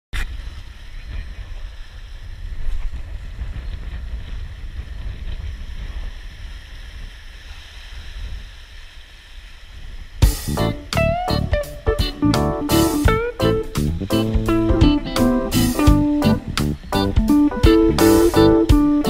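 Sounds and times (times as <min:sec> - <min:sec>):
wind buffeting microphone: 0:00.2 - 0:19.0.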